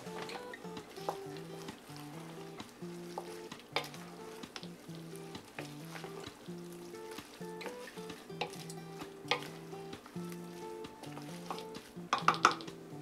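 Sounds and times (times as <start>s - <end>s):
utensil scraping a pan: 0.0s - 12.3s
food sizzling in a pan: 0.0s - 13.0s
soft background music: 0.0s - 13.0s.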